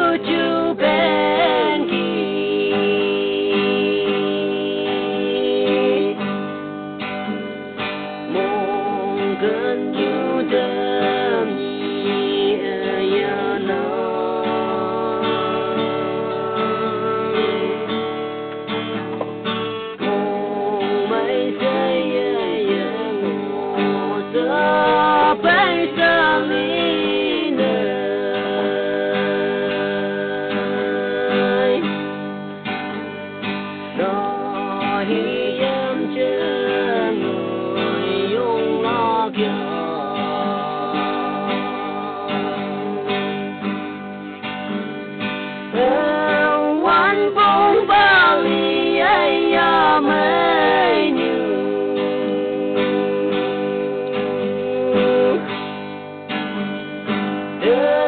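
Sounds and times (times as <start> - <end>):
person singing: 0.0 - 6.5, 8.3 - 18.1, 20.0 - 32.4, 34.0 - 43.8, 45.7 - 56.0, 57.6 - 58.0
strummed guitar: 0.0 - 58.0.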